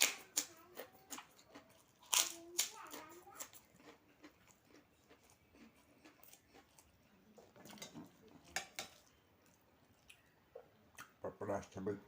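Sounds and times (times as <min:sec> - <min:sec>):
faint chewing: 0:00.0 - 0:11.2.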